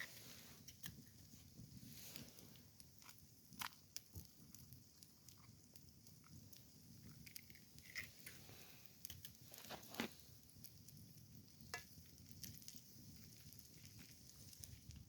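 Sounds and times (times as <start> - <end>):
campfire crackling faintly: 0.0 - 15.0.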